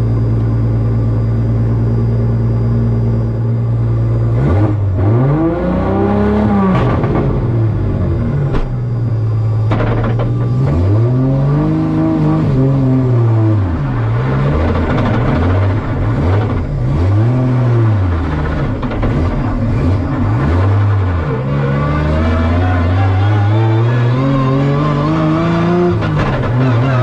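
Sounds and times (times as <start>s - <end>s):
car engine revving: 3.5s - 27.0s.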